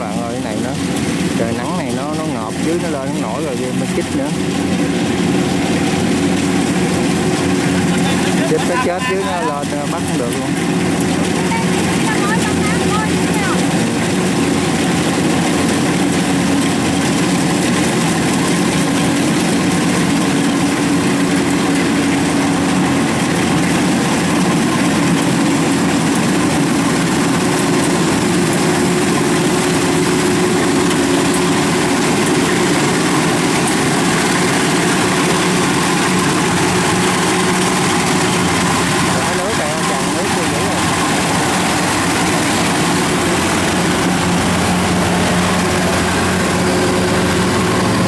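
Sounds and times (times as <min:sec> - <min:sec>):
engine running steadily: 0:00.0 - 0:48.0.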